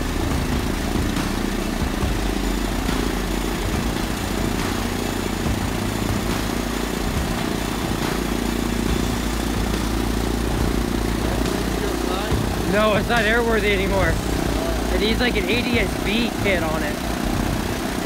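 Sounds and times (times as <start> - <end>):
propeller plane engine idling: 0.0 - 18.0.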